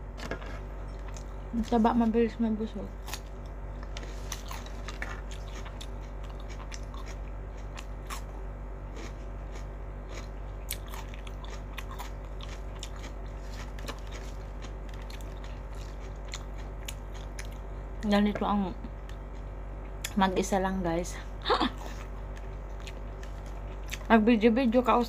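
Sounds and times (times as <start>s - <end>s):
person chewing crunchy food: 0.2s - 1.7s, 3.0s - 18.0s, 18.8s - 20.2s, 21.7s - 24.1s.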